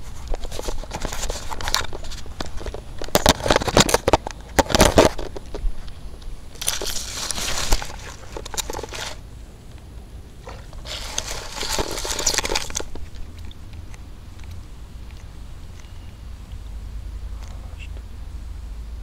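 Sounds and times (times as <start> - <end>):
handling noise rustling and clicks: 0.0 - 16.0.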